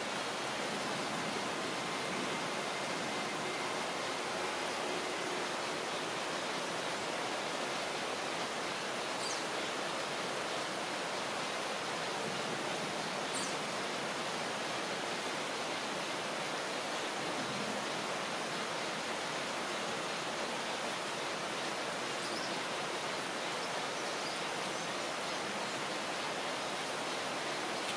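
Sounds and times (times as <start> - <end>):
rainforest hiss: 0.0 - 27.9.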